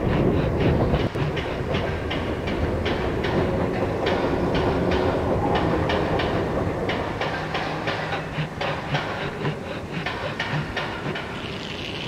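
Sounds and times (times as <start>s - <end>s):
low running hum: 0.0s - 12.0s
model train wheels clicking: 0.0s - 12.0s.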